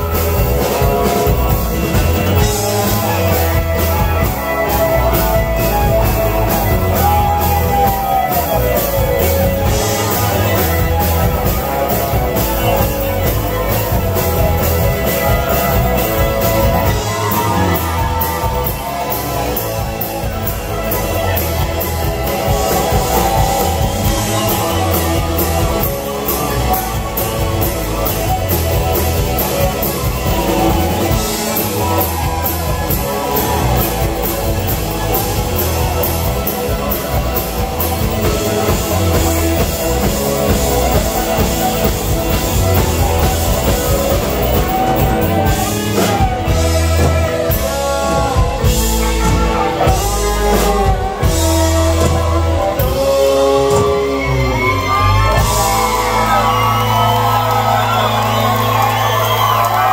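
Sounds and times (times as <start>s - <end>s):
country rock band playing: 0.0s - 59.9s.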